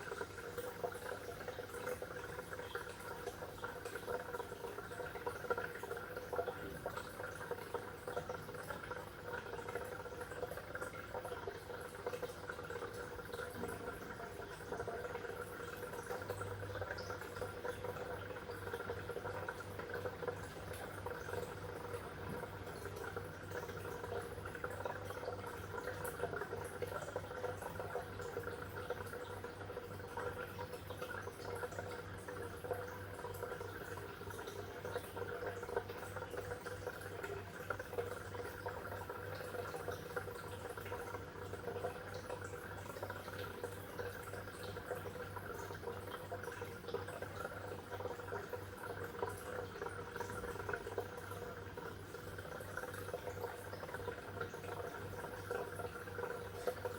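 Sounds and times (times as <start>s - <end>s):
water bubbling and trickling: 0.0s - 56.9s.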